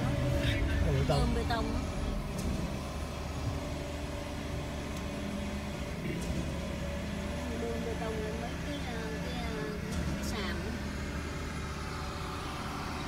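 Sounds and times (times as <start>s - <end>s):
steady hum: 0.0s - 13.0s
vehicle engines idling: 0.0s - 13.0s.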